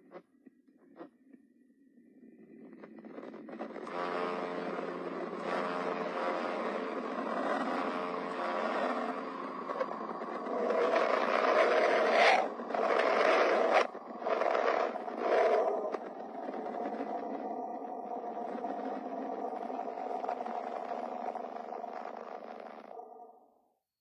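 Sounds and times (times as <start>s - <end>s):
low held tones: 3.8s - 23.5s.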